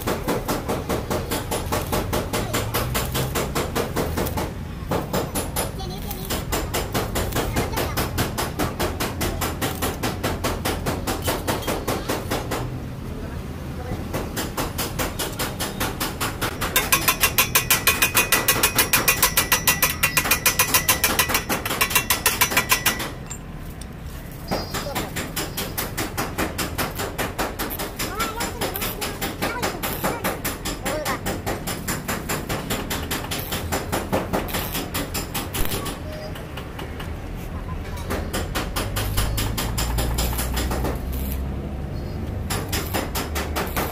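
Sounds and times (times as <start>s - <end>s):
arc welding crackling: 0.0s - 12.4s, 14.4s - 36.4s, 38.3s - 43.9s.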